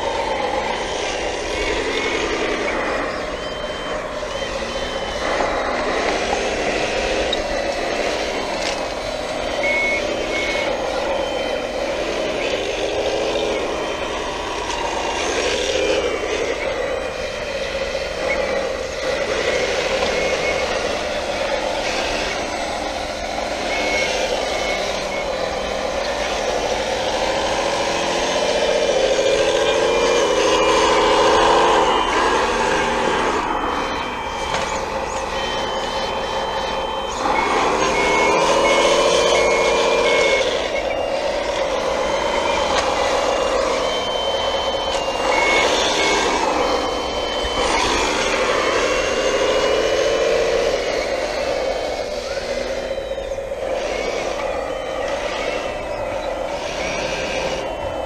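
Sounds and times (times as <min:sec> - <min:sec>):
electronic reversing beeps: 0:00.0 - 0:58.0
simulated heavy machine engine: 0:00.0 - 0:58.0.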